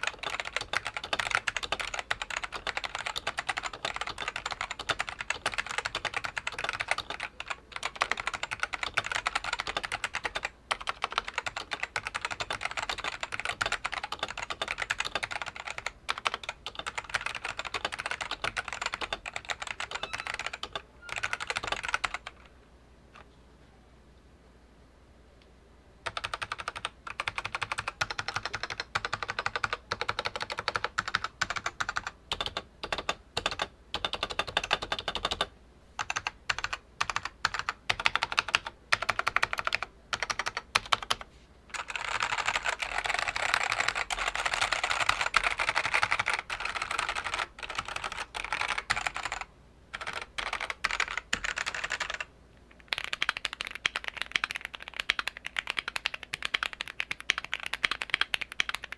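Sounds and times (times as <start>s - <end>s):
keyboard typing: 0.0s - 22.5s, 26.0s - 58.9s.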